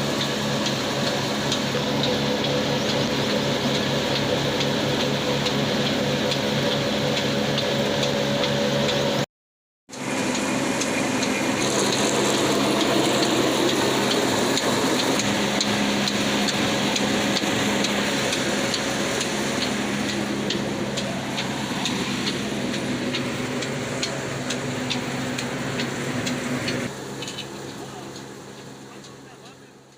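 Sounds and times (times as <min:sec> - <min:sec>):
mill grinding clatter: 0:00.0 - 0:09.2, 0:09.9 - 0:29.6
diesel engine running: 0:00.0 - 0:09.3, 0:09.9 - 0:29.9.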